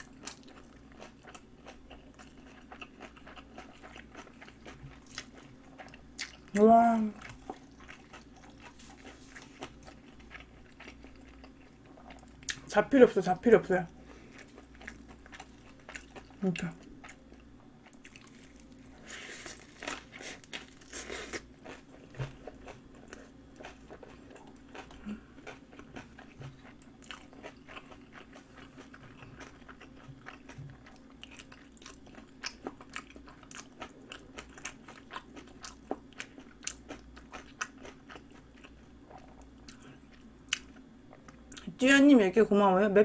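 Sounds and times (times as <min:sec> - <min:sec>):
wet chewing: 0:00.0 - 0:12.7, 0:17.0 - 0:41.7
faint steady hum: 0:00.0 - 0:43.0.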